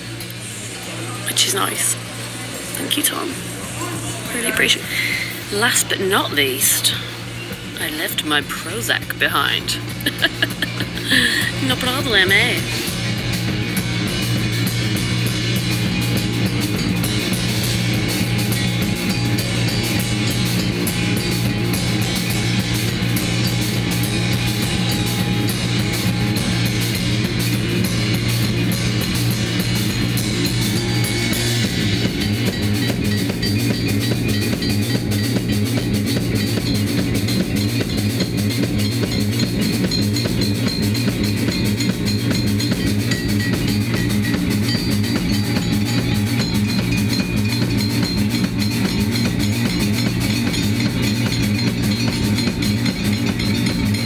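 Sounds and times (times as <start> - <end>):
rock band playing: 9.9 - 54.0.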